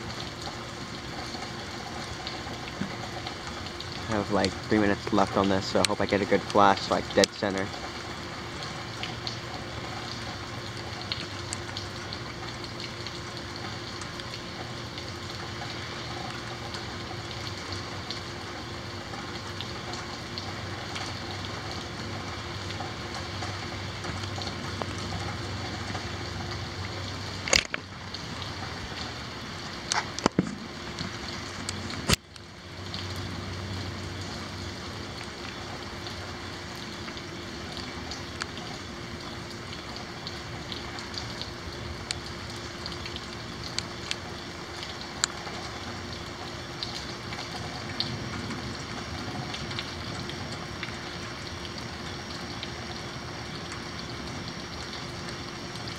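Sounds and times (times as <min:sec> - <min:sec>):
rain falling and dripping: 0:00.0 - 0:55.9.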